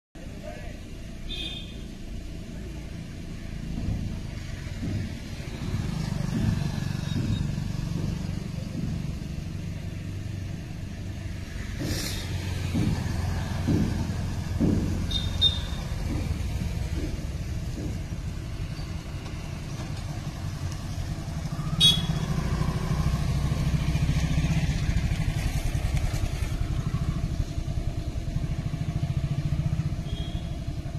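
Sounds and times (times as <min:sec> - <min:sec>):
vehicle engines rumbling: 0:00.2 - 0:30.9.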